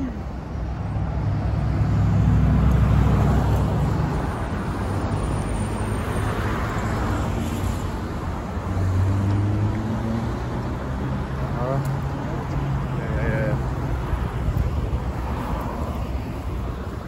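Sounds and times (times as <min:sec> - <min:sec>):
road noise: 0:00.0 - 0:17.0
vehicles passing: 0:00.0 - 0:17.0.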